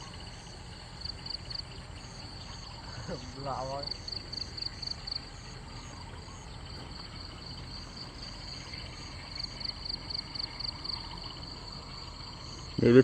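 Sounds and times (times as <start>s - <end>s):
insects chirping: 0.0s - 13.0s
low background hum: 0.0s - 13.0s.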